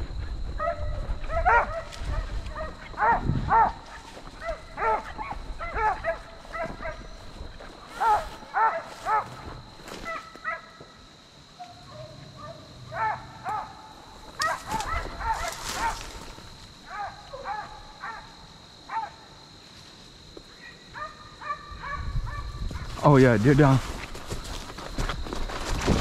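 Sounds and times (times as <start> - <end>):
hounds barking and baying: 0.0 - 11.0, 11.6 - 19.4, 20.6 - 23.0.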